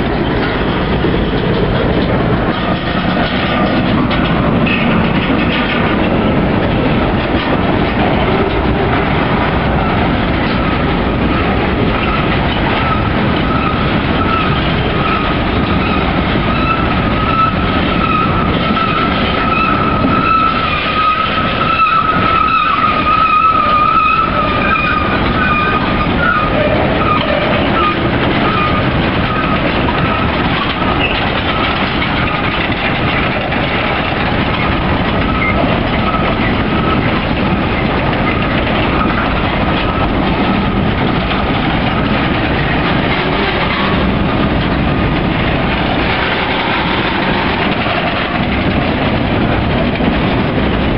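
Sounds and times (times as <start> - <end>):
freight cars rumbling on rails: 0.0 - 50.9.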